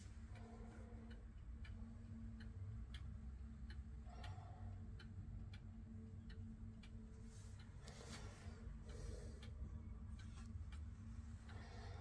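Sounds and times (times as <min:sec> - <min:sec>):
wall clock ticking: 0:00.0 - 0:12.0.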